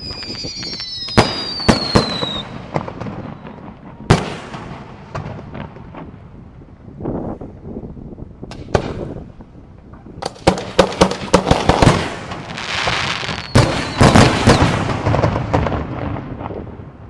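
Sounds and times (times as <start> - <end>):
fireworks bursting: 0.0 - 6.7, 8.5 - 17.0
fireworks crackling: 0.0 - 17.0.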